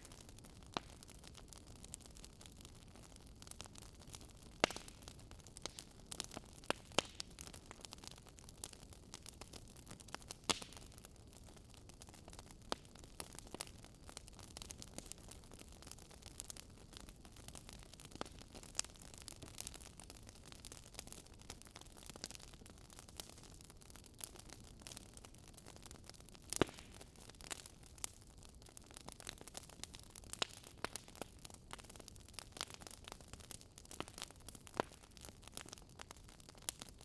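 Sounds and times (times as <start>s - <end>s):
campfire crackling: 0.0s - 37.0s
fire pops and snaps: 0.0s - 37.0s.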